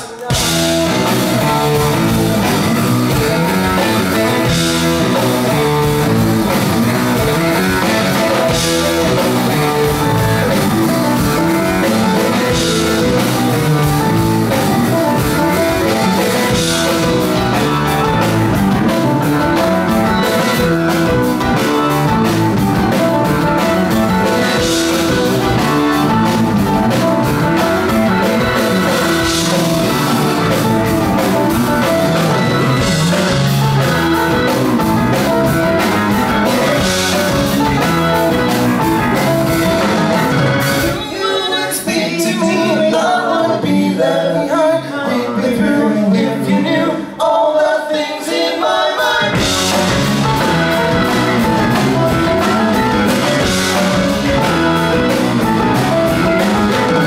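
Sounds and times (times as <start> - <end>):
rock band playing: 0.0 - 44.2, 48.6 - 57.0.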